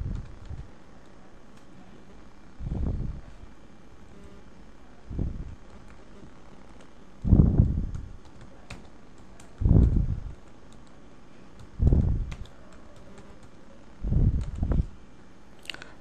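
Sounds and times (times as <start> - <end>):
low muffled bursts: 0.0 - 10.5, 11.2 - 15.0.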